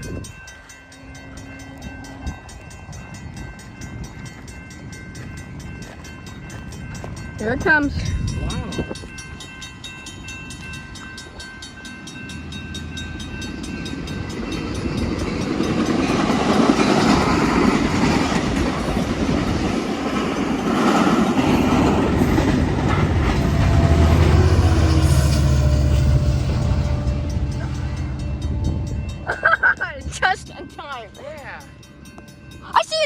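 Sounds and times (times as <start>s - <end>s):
train wheels clattering on rails: 0.0s - 32.8s
level-crossing bell dinging: 0.0s - 33.0s.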